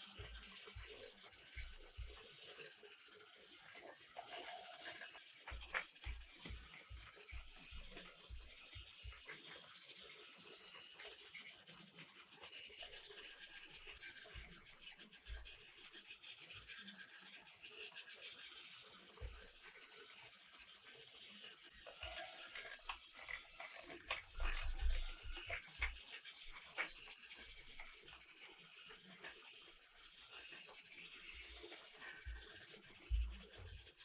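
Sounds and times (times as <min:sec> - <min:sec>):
toy train whirring on track: 0:00.0 - 0:34.0.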